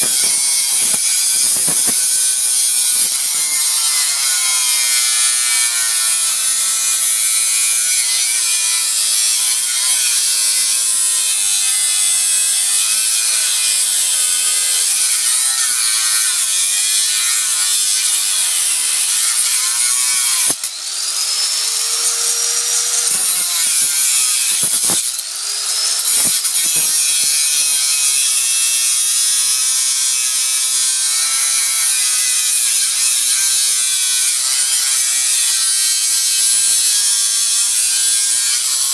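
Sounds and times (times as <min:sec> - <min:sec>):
angle grinder cutting metal: 0:00.0 - 0:38.9.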